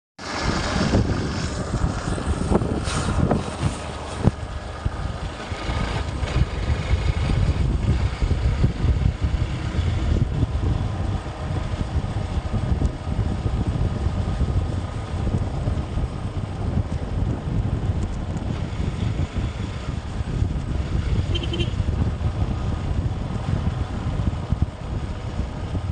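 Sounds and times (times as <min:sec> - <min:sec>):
motorcycle engine running: 0:00.2 - 0:25.9
wind rushing over microphone: 0:00.2 - 0:25.9.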